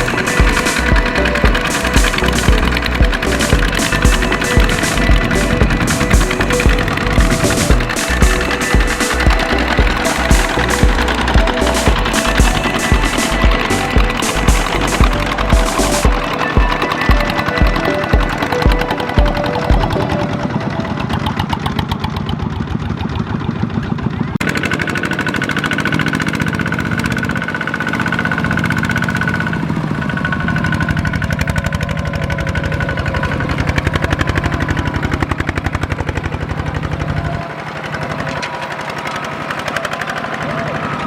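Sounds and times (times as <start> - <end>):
tractor engine knocking: 0.0 - 41.0.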